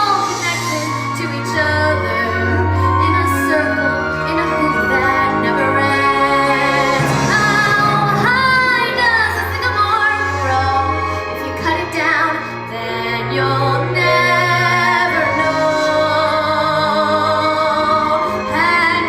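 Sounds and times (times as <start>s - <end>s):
girl singing: 0.0s - 19.0s
musical accompaniment: 0.0s - 19.0s.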